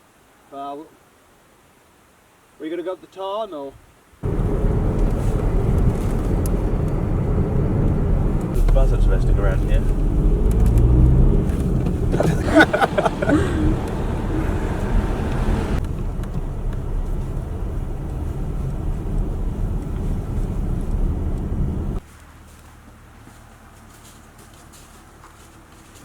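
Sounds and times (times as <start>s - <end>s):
car engine and road noise: 4.2s - 26.0s.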